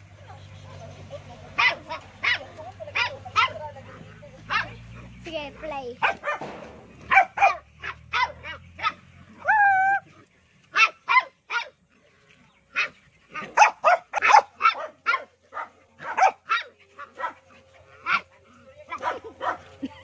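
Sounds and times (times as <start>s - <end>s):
small dogs yapping: 0.2s - 10.1s, 10.7s - 11.8s, 12.7s - 19.8s.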